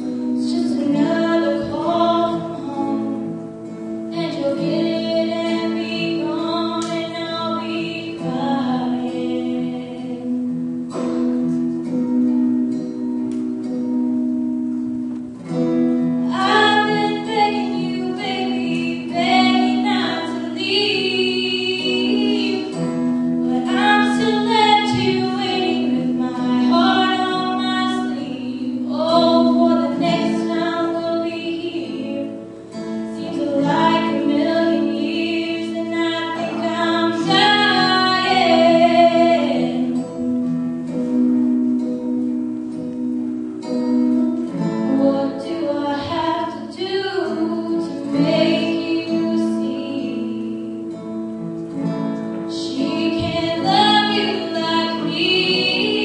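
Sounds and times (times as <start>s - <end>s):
woman singing into a microphone: 0.0s - 11.0s, 16.2s - 40.2s, 44.5s - 51.1s, 52.4s - 56.0s
acoustic guitar: 0.0s - 56.0s.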